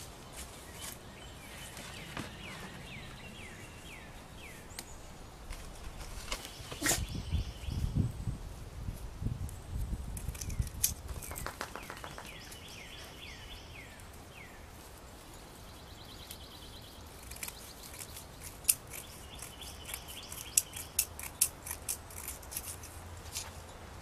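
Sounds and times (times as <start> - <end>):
small birds chirping: 0.0 - 8.4, 9.5 - 22.8.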